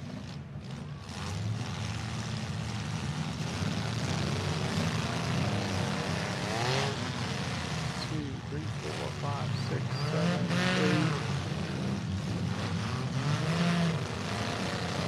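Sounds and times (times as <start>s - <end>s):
car engines revving: 0.0s - 15.0s
engine revs rising whine: 0.0s - 15.0s.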